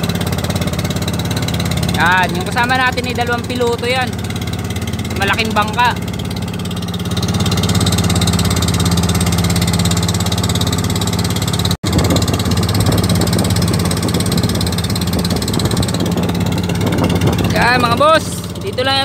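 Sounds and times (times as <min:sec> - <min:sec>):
boat engine running: 0:00.0 - 0:19.0
water rushing past hull: 0:00.0 - 0:19.0.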